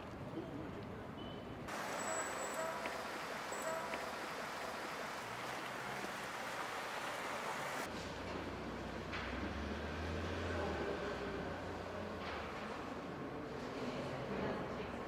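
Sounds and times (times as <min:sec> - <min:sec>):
distant city traffic: 0:01.0 - 0:15.0.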